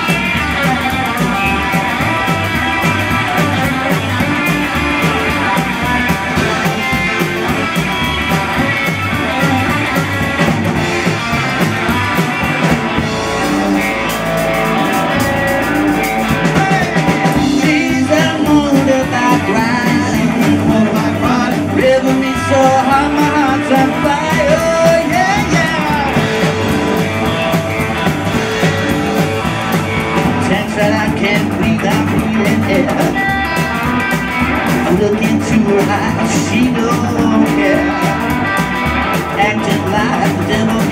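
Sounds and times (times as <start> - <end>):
electric guitar: 0.0 - 40.9
rock and roll band playing: 0.0 - 40.9
upright double bass: 0.0 - 40.9.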